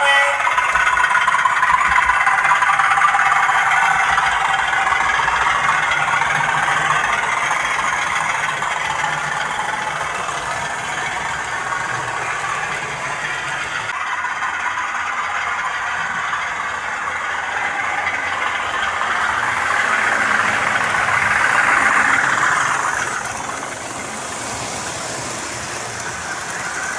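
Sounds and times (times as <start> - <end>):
model train running on track: 0.0 - 26.9.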